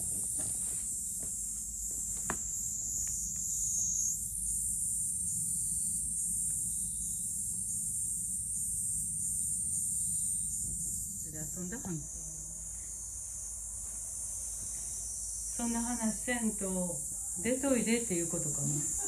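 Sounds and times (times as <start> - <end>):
insects singing: 0.0 - 19.0.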